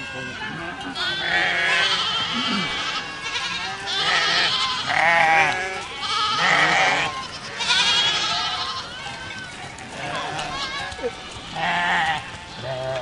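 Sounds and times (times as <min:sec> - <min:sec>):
goats bleating: 0:00.0 - 0:09.1, 0:09.7 - 0:13.0.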